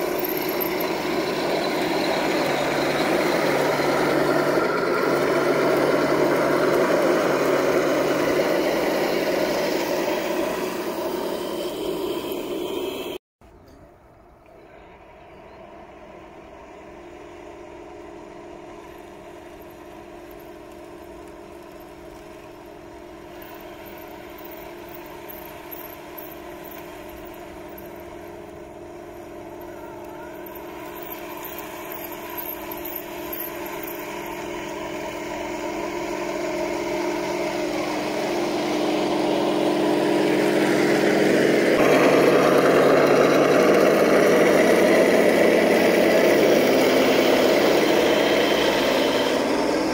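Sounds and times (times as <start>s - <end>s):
toy tank motor hum and whine: 0.0s - 13.2s, 15.0s - 49.9s
tank track noise: 0.0s - 13.8s, 16.5s - 49.9s.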